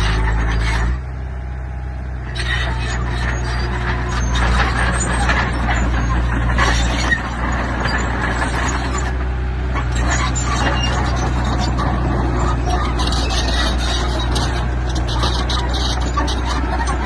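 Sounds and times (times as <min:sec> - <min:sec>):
diesel machinery engine: 0:00.0 - 0:17.0.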